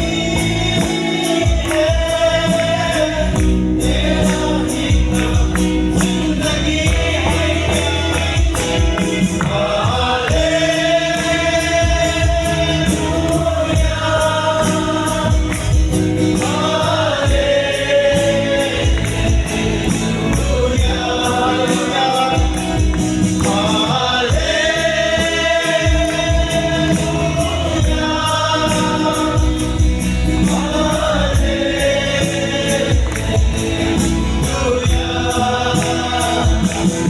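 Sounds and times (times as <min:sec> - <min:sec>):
bass: 0:00.0 - 0:37.0
choir singing gospel music: 0:00.0 - 0:37.0
steady percussion beat: 0:00.0 - 0:37.0.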